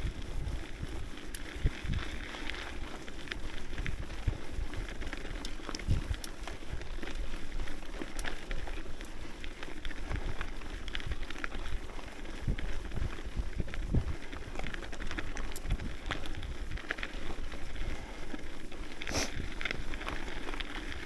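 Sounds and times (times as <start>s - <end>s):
bike clicks and rattles: 0.0s - 21.0s
tyres crunching over gravel: 0.1s - 21.0s.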